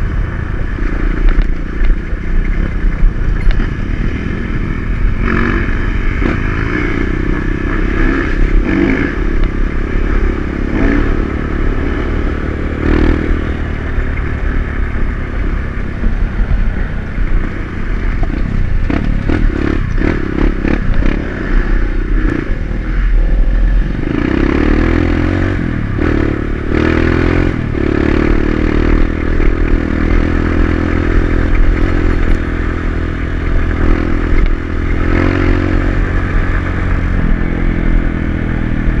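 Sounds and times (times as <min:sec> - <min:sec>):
dirt bike engine: 0:00.0 - 0:39.0.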